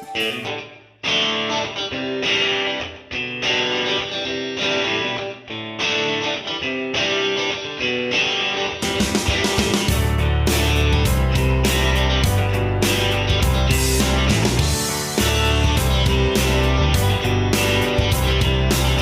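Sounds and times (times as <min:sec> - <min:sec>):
strummed guitar music: 0:00.0 - 0:19.0.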